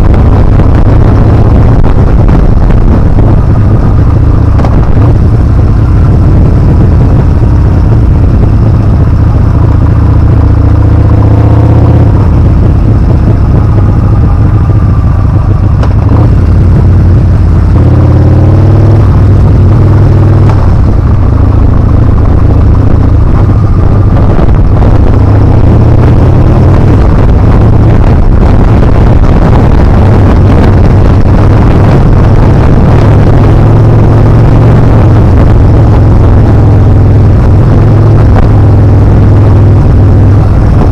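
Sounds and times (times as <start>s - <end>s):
motorcycle engine accelerating: 0.0s - 40.9s
wind on microphone: 0.0s - 40.9s.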